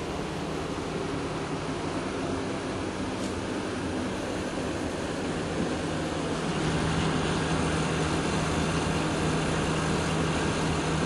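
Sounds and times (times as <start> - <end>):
air conditioner fan blowing: 0.0 - 11.0
compressor drone: 0.0 - 11.0.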